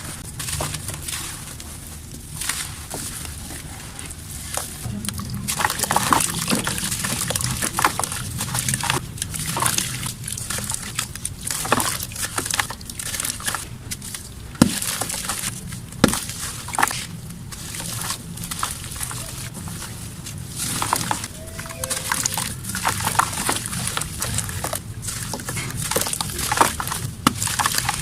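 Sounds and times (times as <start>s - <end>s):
dry mud crumbling: 0.0s - 21.3s, 22.0s - 28.0s.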